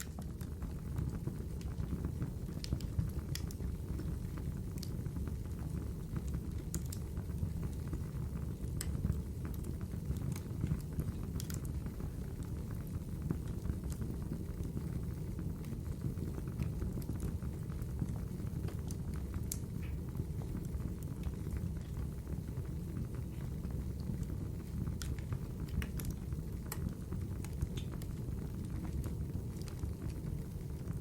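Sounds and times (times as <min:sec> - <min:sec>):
fire rumbling in fireplace: 0:00.0 - 0:31.0
wood crackling and popping: 0:00.0 - 0:31.0.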